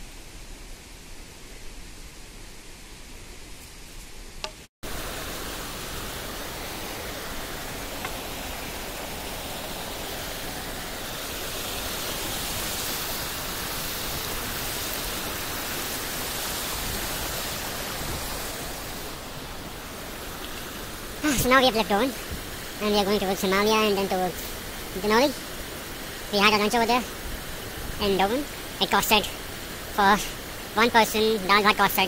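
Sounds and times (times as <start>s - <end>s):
stream rushing over rocks: 4.8s - 32.0s.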